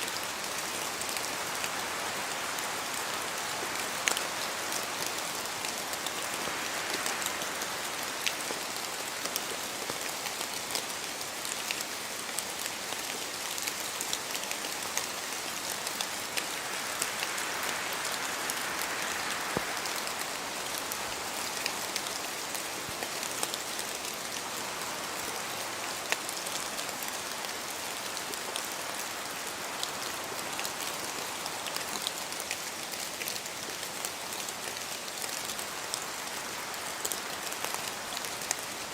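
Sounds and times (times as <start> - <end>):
rain falling in forest: 0.0 - 38.9
wind through branches: 0.0 - 38.9.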